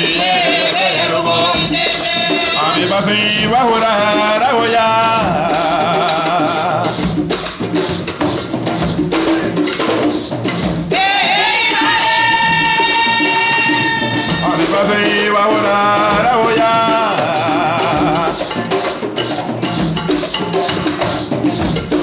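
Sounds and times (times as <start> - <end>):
people singing: 0.0 - 7.5, 10.8 - 22.0
hand drums: 0.0 - 22.0.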